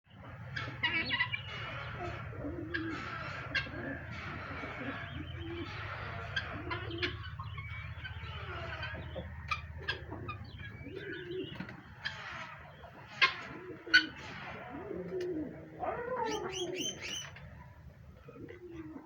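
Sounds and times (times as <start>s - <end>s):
birds chirping: 0.1s - 19.0s
birds cooing: 0.1s - 19.0s.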